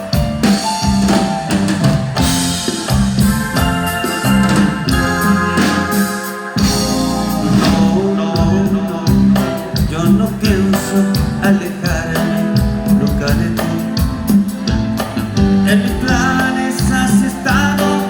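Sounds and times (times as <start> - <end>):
band music with steady beat: 0.0 - 18.0.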